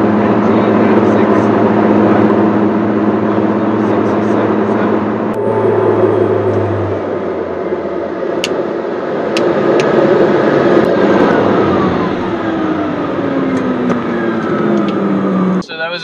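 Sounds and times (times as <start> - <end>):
turboprop engine whine: 0.0 - 16.0.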